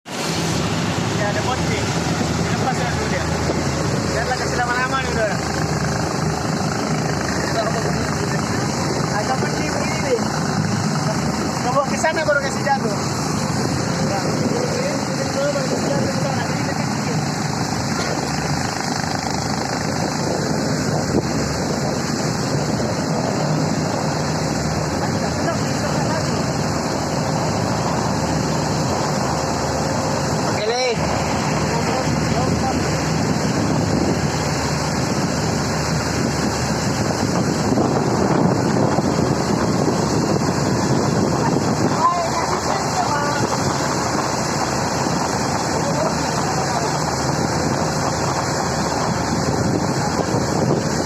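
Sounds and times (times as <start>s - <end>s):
speedboat engine running: 0.0s - 51.0s
water rushing past: 0.0s - 51.0s
wind buffeting microphone: 0.1s - 51.0s.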